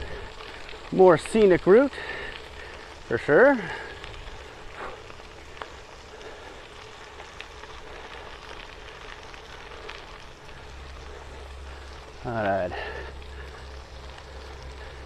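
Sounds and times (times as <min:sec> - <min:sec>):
bicycle tyres rolling on gravel: 0:00.0 - 0:15.0.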